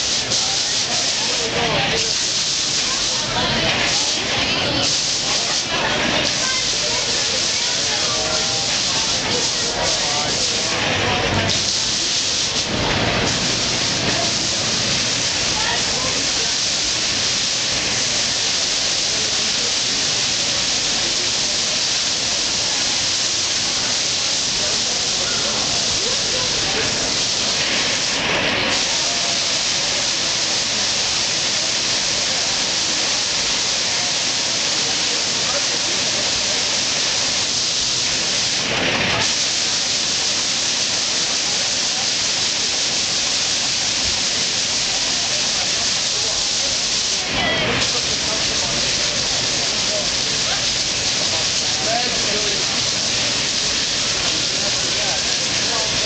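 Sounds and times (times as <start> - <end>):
waterfall splashing: 0.0 - 56.0.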